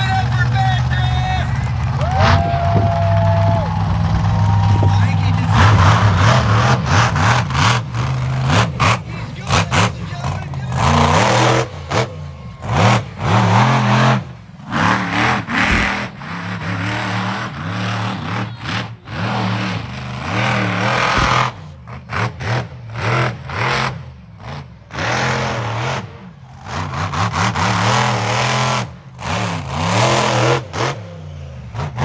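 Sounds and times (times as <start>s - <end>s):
monster truck engine revving: 0.0s - 32.0s.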